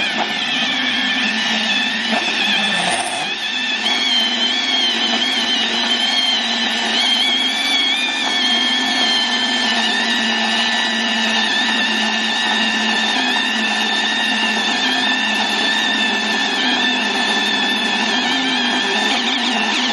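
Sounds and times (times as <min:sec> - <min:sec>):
band saw cutting metal: 0:00.0 - 0:19.9
high-pitched blade whine: 0:00.0 - 0:19.9.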